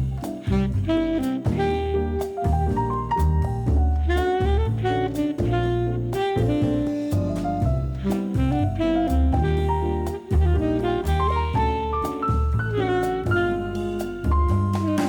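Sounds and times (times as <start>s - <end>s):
bass: 0.0s - 15.0s
drums: 0.0s - 15.0s
saxophone melody: 0.0s - 15.0s.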